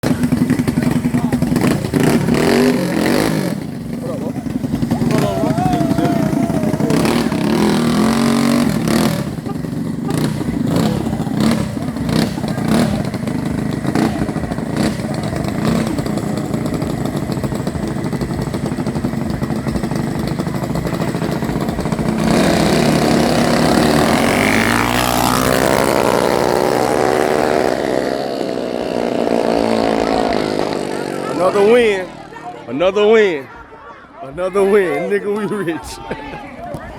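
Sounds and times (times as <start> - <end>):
small engine running: 0.0 - 32.5.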